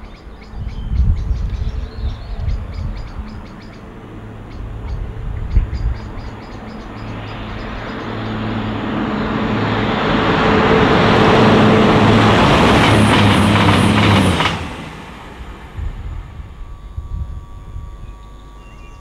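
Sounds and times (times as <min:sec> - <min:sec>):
train engine hum: 0:00.0 - 0:19.0
rushing noise of passing train: 0:01.1 - 0:16.6.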